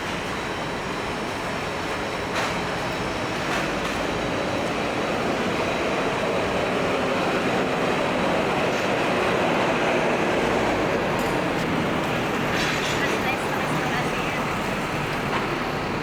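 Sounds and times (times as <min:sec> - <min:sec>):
metro station rushing noise: 0:00.0 - 0:16.0
train running: 0:00.0 - 0:16.0.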